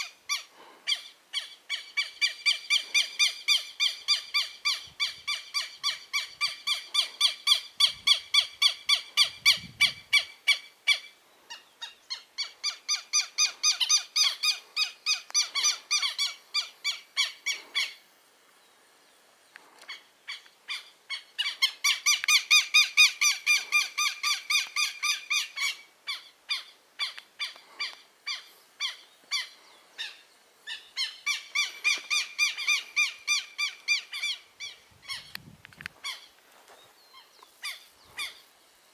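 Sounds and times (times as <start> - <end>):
lapwings calling: 0.0 - 18.1, 19.7 - 35.4, 36.0 - 38.5.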